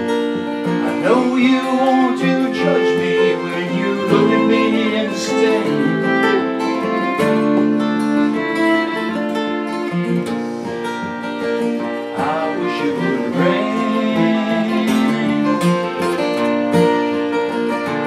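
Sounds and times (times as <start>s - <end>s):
acoustic guitars strumming: 0.0s - 18.0s
fiddle melody: 0.0s - 18.0s.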